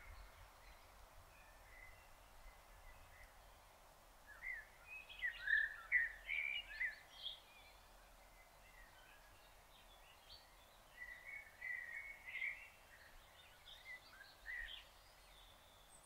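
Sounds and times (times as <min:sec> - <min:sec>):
faint outdoor hiss: 0:00.0 - 0:16.0
songbird singing: 0:00.0 - 0:16.0.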